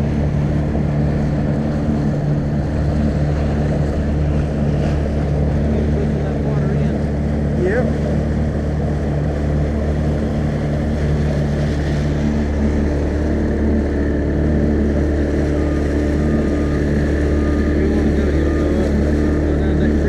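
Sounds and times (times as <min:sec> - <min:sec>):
outboard motor running: 0:00.0 - 0:20.0
water rushing along hull: 0:00.0 - 0:20.0.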